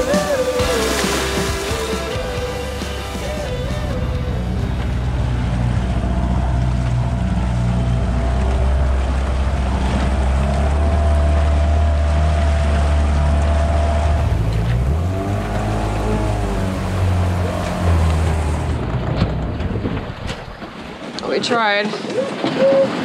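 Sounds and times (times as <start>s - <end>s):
outboard motor running: 0.0s - 21.1s
water washing past hulls: 0.0s - 23.0s.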